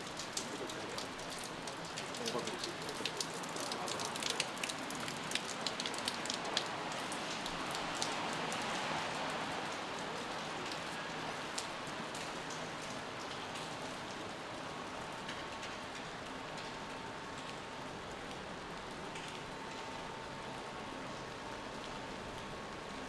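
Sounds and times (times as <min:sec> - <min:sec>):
rain hissing on wet street: 0:00.0 - 0:23.0.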